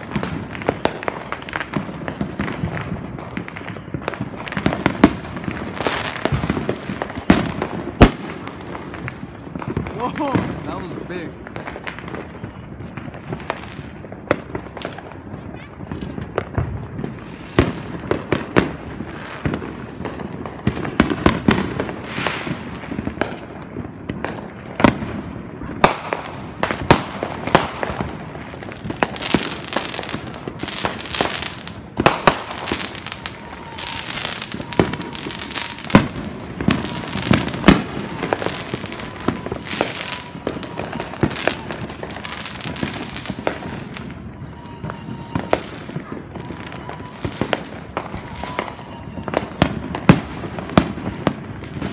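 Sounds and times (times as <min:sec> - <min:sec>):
fireworks bangs: 0:00.0 - 0:51.9
fireworks crackling: 0:00.0 - 0:51.9.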